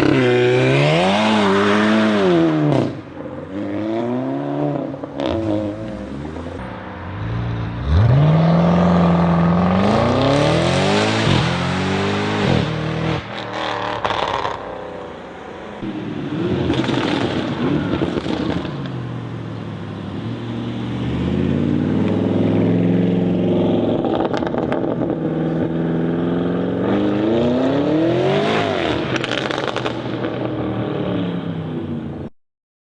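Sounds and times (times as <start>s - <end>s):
car engines revving: 0.0s - 32.3s.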